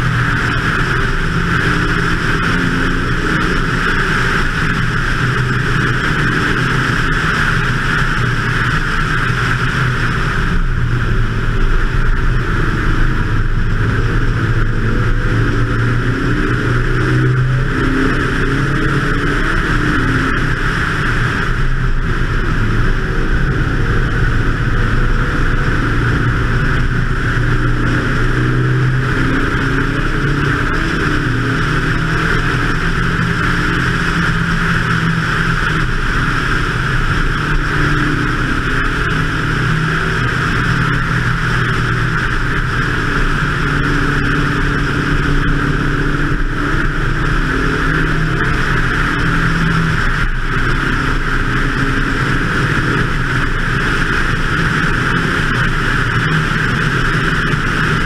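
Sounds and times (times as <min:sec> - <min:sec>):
car engine running hard: 0:00.0 - 0:58.0.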